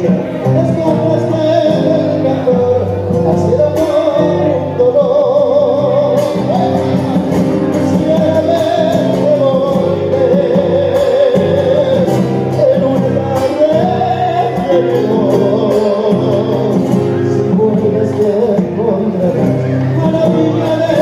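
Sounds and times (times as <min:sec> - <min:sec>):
acoustic guitars strummed: 0:00.0 - 0:21.0
person singing with vibrato: 0:00.0 - 0:21.0.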